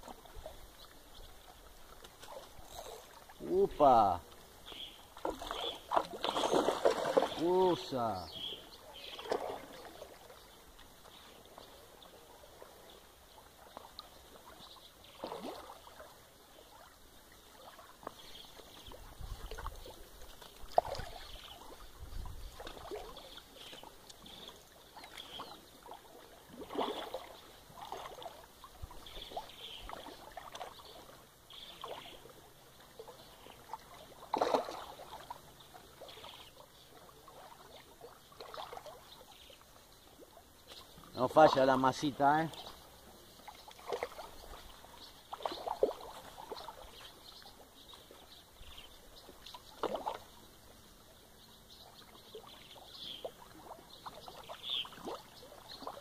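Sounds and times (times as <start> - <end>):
creek water splashing: 0.0 - 56.0.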